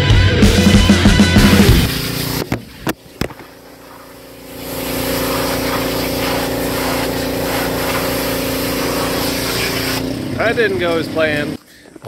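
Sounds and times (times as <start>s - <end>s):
machine humming: 0.4s - 10.4s.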